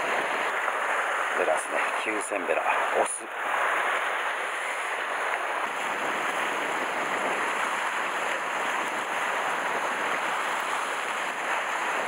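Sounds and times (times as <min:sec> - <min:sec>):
surf washing against rocks: 0:00.0 - 0:12.0.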